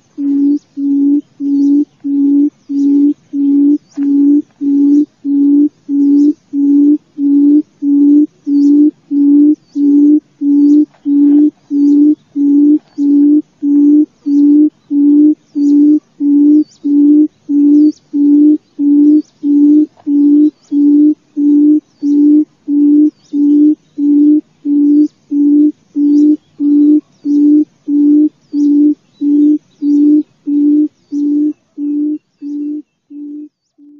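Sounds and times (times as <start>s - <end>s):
bird low hooting call: 0.0s - 33.9s.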